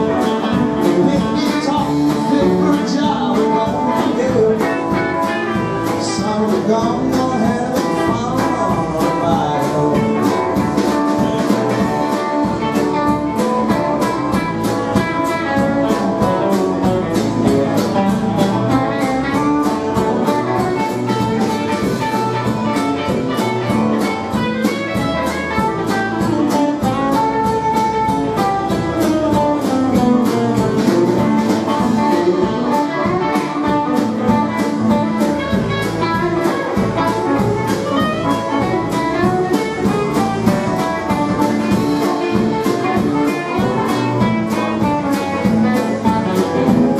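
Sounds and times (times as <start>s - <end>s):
bass guitar: 0.0s - 46.9s
drum kit beat: 0.0s - 46.9s
electric guitars: 0.0s - 46.9s.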